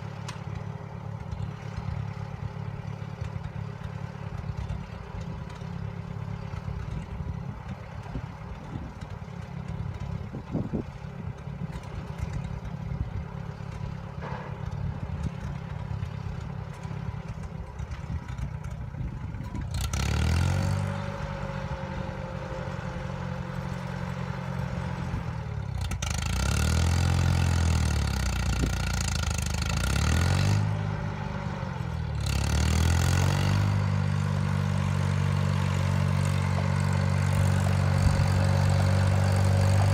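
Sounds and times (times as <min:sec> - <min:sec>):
tractor engine clattering: 0:00.0 - 0:39.9.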